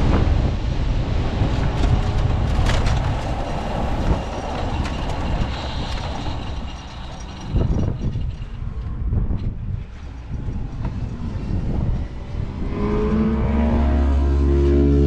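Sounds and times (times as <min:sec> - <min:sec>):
motorcycle rattling rolling noise: 0:00.0 - 0:13.2
rushing wind: 0:00.0 - 0:15.0.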